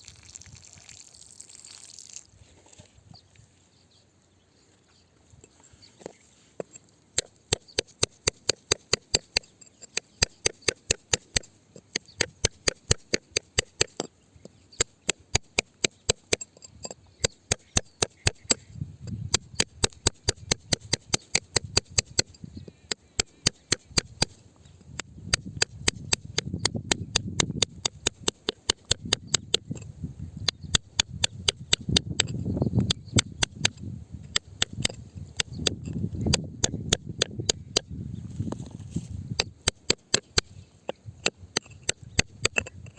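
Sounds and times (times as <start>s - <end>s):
tool striking rock: 6.0s - 37.9s, 39.3s - 42.9s.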